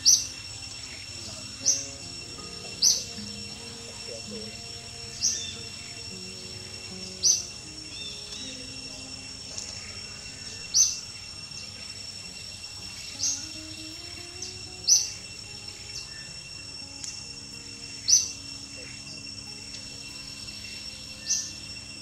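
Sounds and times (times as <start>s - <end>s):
faint background music: 0.0s - 22.0s
insect drone: 0.0s - 22.0s
sharp high chirps: 0.0s - 22.0s.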